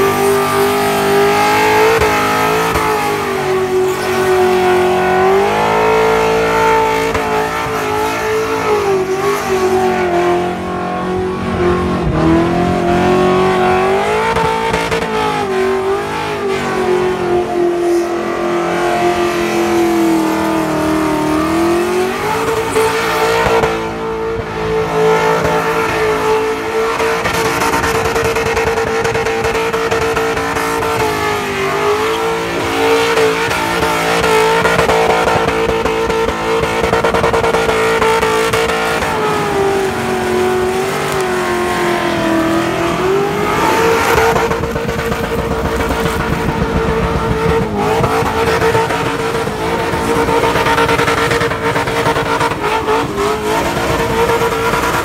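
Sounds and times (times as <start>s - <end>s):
car engine revving high: 0.0s - 55.0s
tyres spinning in a burnout: 0.0s - 55.0s.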